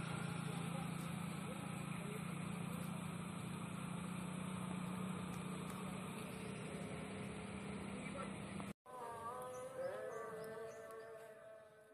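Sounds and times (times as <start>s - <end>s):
low motor hum: 0.0s - 11.9s.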